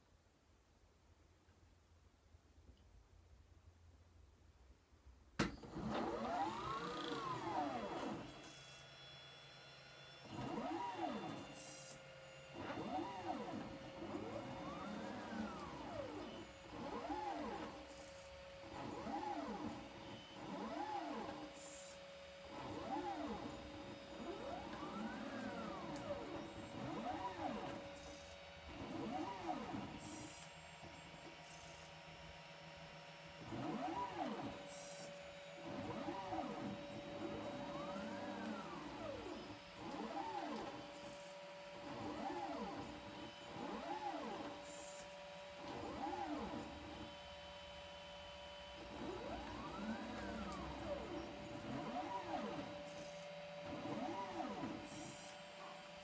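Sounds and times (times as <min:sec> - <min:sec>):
robotic arm motors whining: 0:05.8 - 0:56.0.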